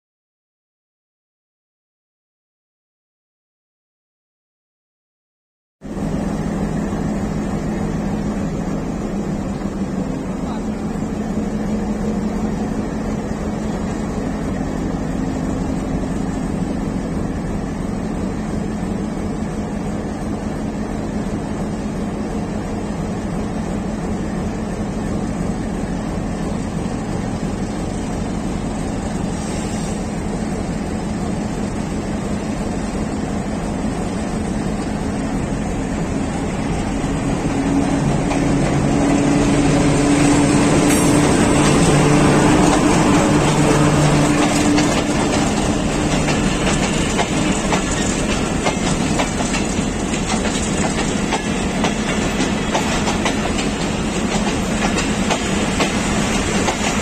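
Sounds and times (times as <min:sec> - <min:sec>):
diesel locomotive engine hum: 0:05.8 - 0:57.0.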